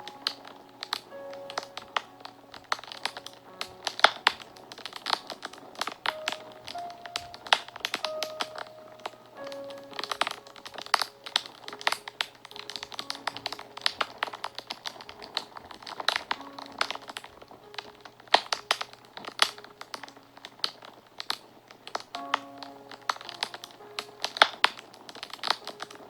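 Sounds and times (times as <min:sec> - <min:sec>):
faint background music: 0:00.0 - 0:26.0
wood fire crackling and popping: 0:00.0 - 0:26.0.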